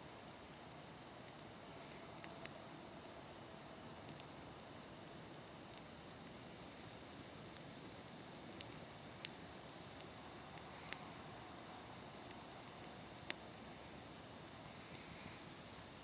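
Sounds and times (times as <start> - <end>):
bonfire crackling and popping: 0.2 - 16.0.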